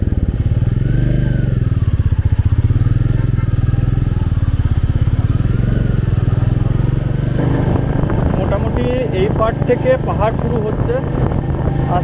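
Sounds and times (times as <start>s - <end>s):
motorcycle engine pulling away: 0.0s - 12.0s.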